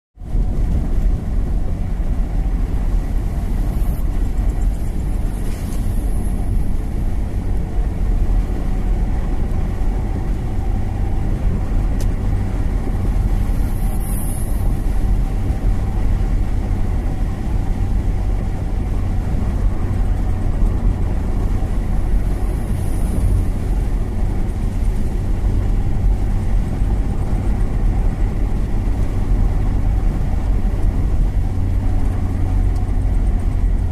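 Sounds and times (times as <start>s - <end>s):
vehicle rumbling along road: 0.2s - 33.9s.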